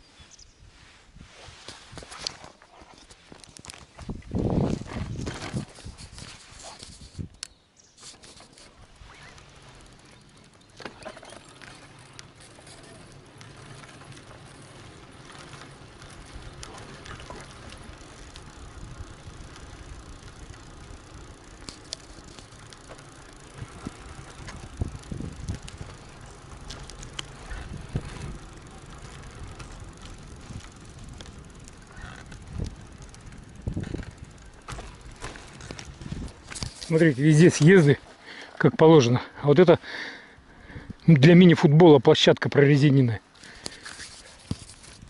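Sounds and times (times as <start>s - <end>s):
bicycle tyres rolling on asphalt: 0.0s - 45.0s
bicycle rattles and knocks: 1.9s - 39.2s, 40.7s - 45.0s.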